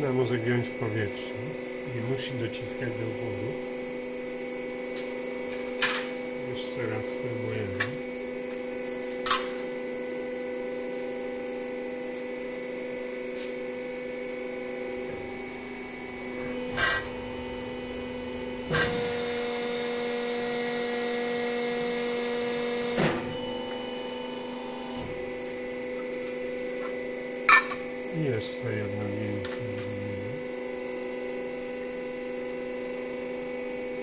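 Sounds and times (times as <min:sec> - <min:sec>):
hydraulic pump humming: 0:00.0 - 0:34.0.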